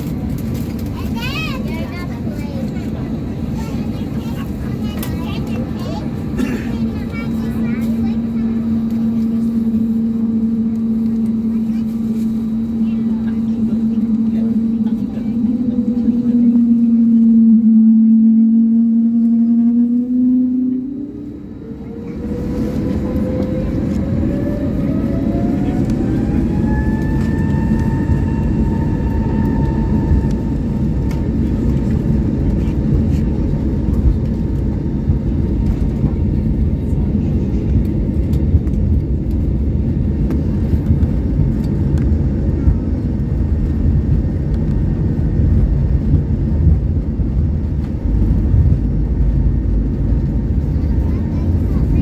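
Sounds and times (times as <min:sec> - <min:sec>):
jet engine whine: 0:00.0 - 0:52.0
low cabin rumble: 0:00.0 - 0:52.0.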